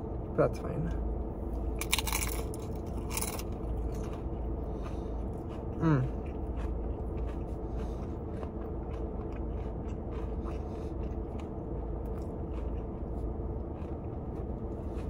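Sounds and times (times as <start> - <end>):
low hum: 0.0 - 15.0
person chewing food: 1.6 - 15.0.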